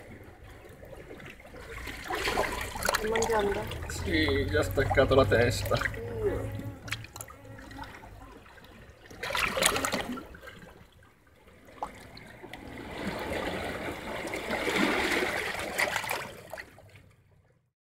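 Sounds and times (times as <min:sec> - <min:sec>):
seawater washing over rocks: 0:00.0 - 0:16.8.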